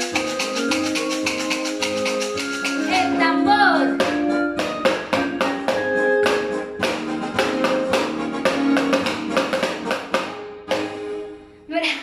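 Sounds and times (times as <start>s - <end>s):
homemade drum struck: 0.0s - 11.1s
backing music with held tones: 0.0s - 11.7s.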